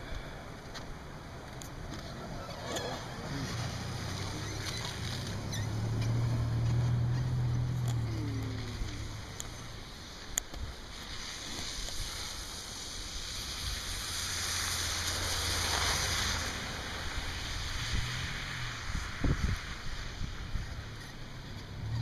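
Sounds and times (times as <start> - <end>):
vehicle passing on snowy road: 0.0 - 22.0.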